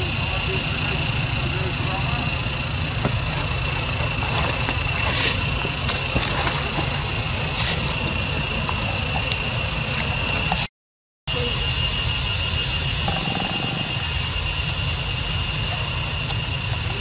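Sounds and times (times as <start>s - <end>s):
high-pitched whine: 0.0s - 10.7s, 11.3s - 17.0s.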